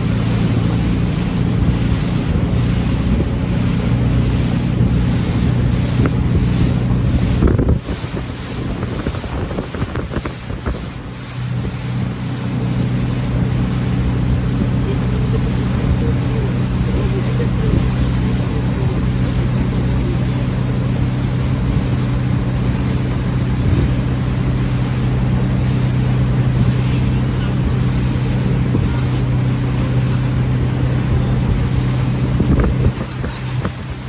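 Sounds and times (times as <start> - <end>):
boat engine running: 0.0 - 34.0
water noise: 0.0 - 34.0
wind on microphone: 0.0 - 34.0.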